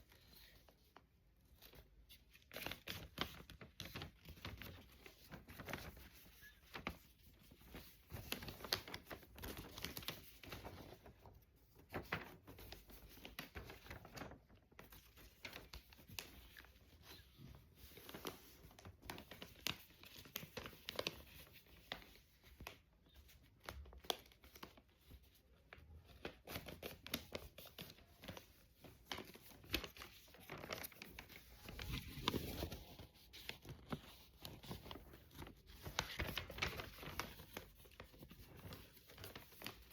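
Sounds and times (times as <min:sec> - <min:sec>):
paper crinkling and rustling: 0:00.0 - 0:39.9.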